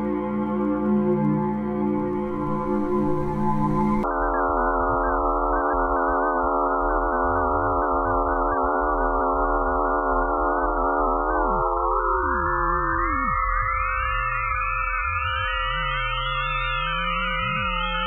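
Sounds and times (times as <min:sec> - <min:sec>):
eerie electronic drone: 0:00.0 - 0:18.0.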